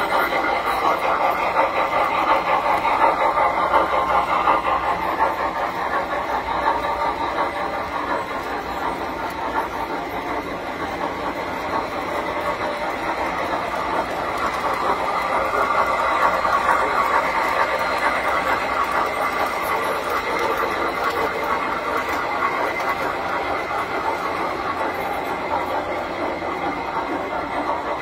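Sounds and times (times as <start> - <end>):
model trains rattling on metal track: 0.0 - 28.0.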